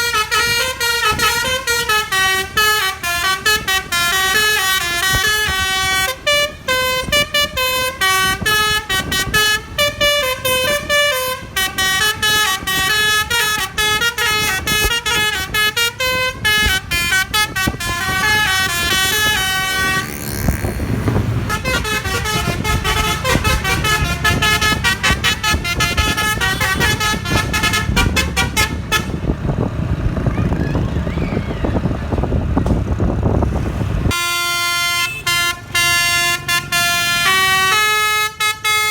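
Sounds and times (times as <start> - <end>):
bus horn playing quick melody: 0.0 - 20.4, 21.4 - 29.3, 34.1 - 38.9
bus engine low rumble: 0.0 - 38.9.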